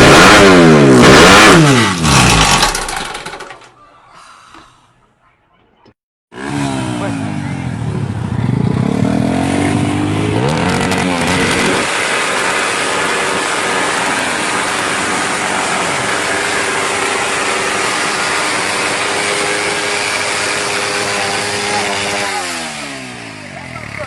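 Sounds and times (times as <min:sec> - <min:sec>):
motorcycle engine revving: 0:00.0 - 0:03.7, 0:06.3 - 0:24.0.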